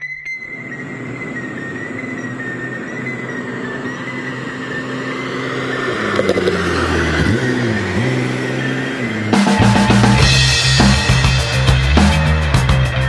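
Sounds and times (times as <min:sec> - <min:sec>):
car engine running and revving: 0:00.5 - 0:13.0.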